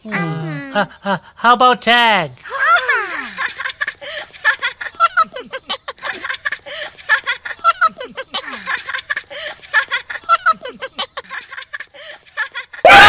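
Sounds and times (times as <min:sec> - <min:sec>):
children giggling and laughing: 0:02.4 - 0:13.0.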